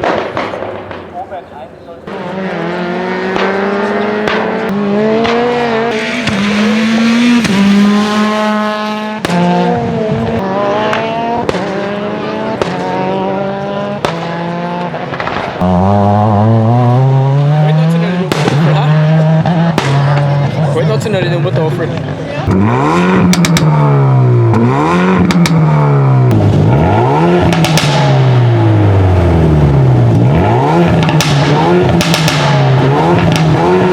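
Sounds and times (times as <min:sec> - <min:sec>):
exhaust bangs and pops: 0:00.0 - 0:01.4, 0:02.0 - 0:33.9
race car engine revving: 0:02.0 - 0:33.9.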